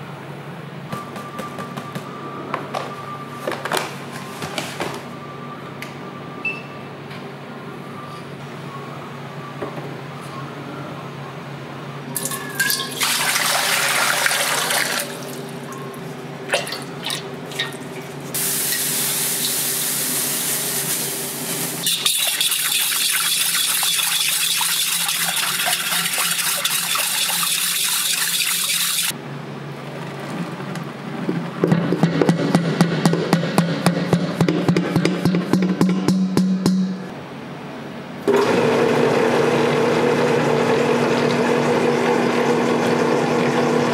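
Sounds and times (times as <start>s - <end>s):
kitchen machinery hum: 0.0s - 43.9s.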